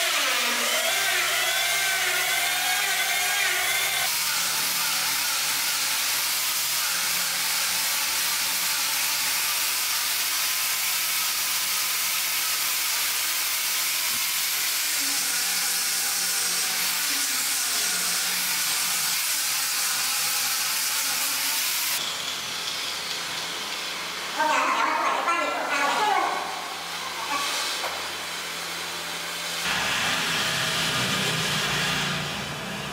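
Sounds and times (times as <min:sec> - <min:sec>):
angle grinder sanding wood: 0:00.0 - 0:32.9.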